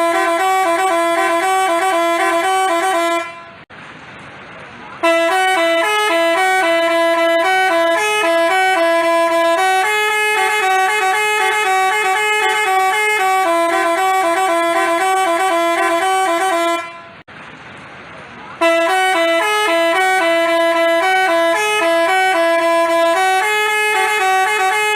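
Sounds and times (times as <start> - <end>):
multi-note bus horn melody: 0.0 - 3.7, 5.0 - 17.3, 18.6 - 24.9.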